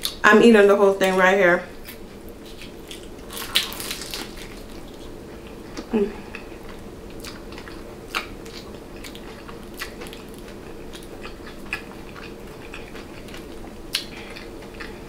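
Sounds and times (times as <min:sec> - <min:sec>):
steady low hum: 0:00.0 - 0:15.0
chewing and biting: 0:01.8 - 0:15.0.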